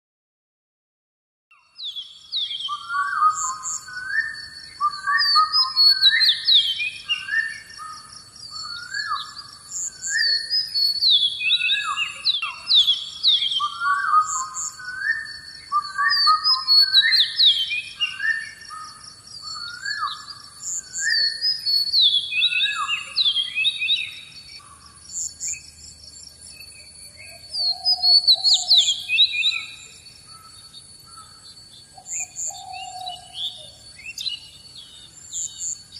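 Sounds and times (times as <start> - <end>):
songbird chirping: 1.5 - 35.9.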